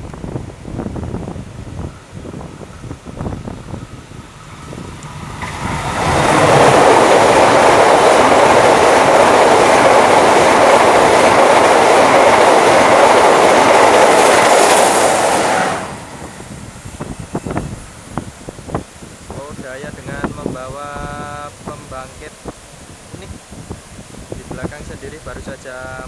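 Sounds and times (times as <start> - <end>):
passenger train passing: 0.0 - 26.0.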